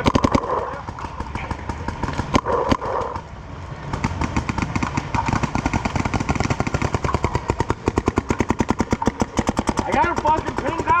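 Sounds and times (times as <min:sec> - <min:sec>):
paintball marker firing rapidly: 0:00.0 - 0:03.3, 0:03.9 - 0:11.0.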